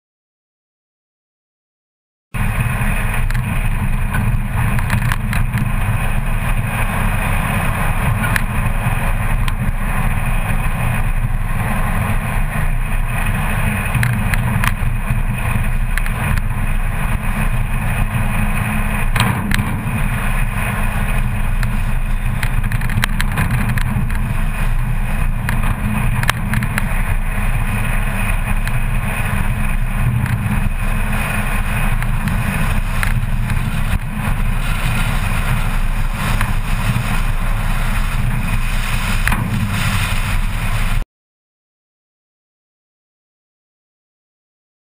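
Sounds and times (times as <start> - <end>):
car engine running: 2.4 - 41.0
wind and road noise: 2.4 - 41.0.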